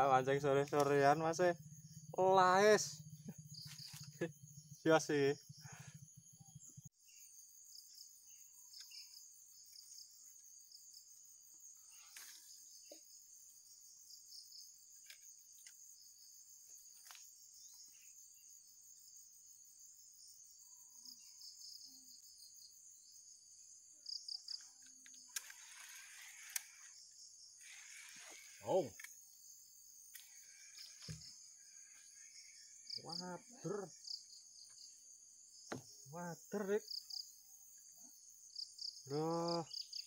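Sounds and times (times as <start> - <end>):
insects chirping: 0.0 - 40.0.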